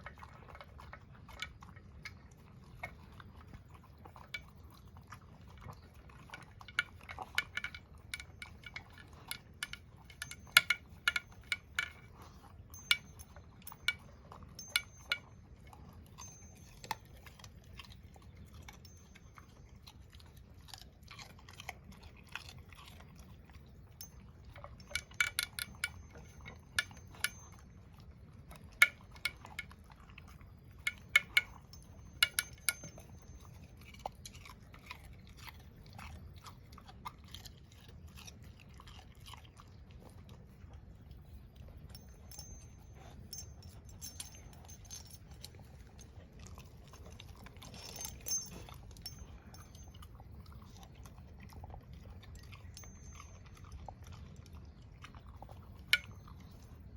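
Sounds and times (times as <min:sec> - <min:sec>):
dog chewing and crunching food: 0:00.0 - 0:56.9.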